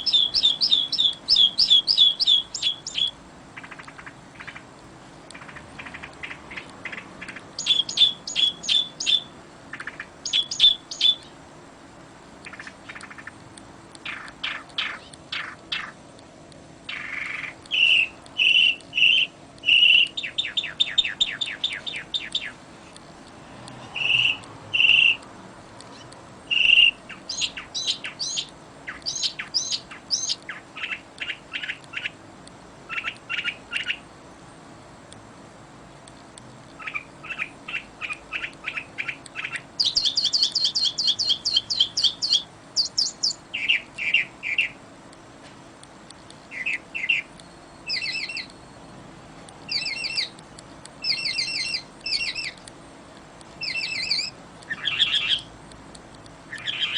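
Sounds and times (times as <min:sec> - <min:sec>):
songbirds singing: 0:00.0 - 0:34.8, 0:35.7 - 0:56.9.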